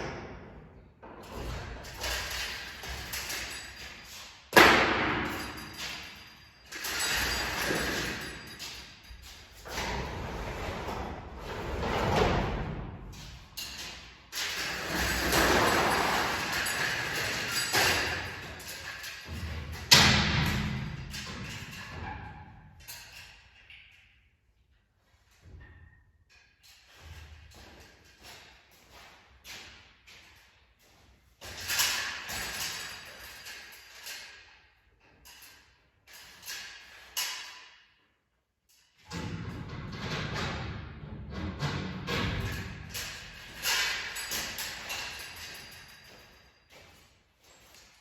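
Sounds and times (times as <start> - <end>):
garage door rolling and rattling: 0.0 - 24.1, 31.4 - 37.7, 38.8 - 48.0.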